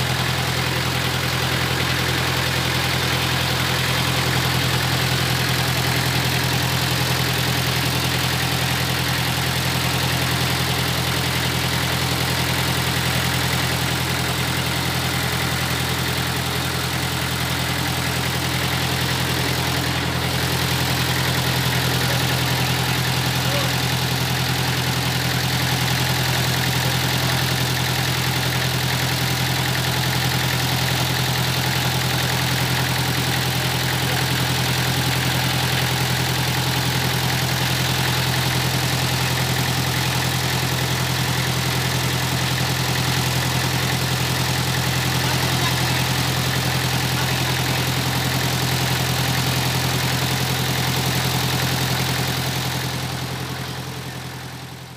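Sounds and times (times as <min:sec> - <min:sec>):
diesel generator engine running: 0:00.0 - 0:54.9.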